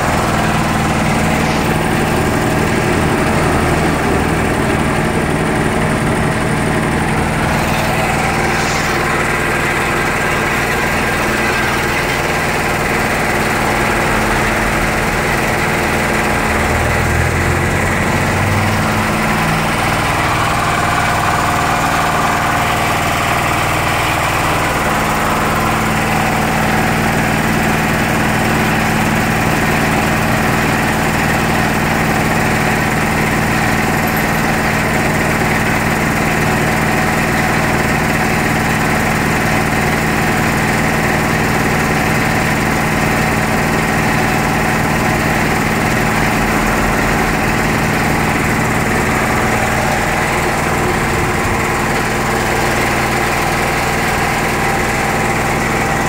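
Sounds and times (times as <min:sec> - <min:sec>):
air compressor running: 0:00.0 - 0:56.0.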